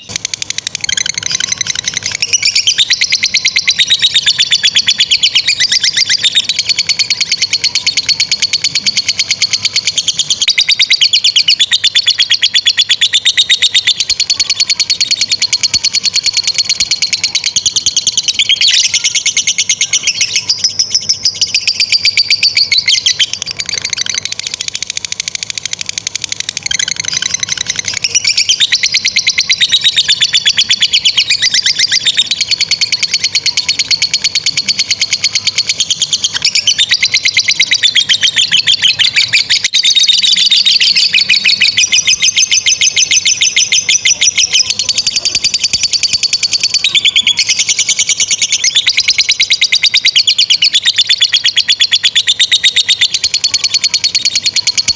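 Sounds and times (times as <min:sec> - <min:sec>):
lovebirds chattering: 0:00.0 - 0:54.9.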